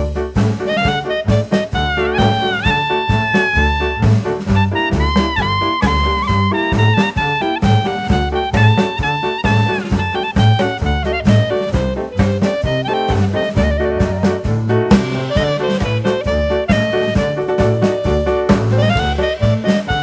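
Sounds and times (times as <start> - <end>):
swing jazz with saxophone and brass: 0.0 - 20.0.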